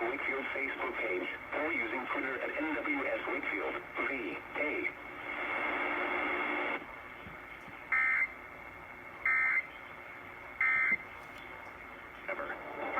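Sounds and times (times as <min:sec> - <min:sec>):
radio hiss: 0:00.0 - 0:12.9.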